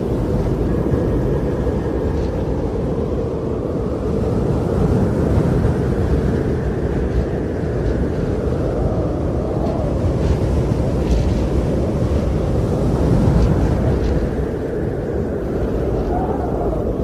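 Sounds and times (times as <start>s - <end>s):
wind blowing: 0.0s - 17.0s.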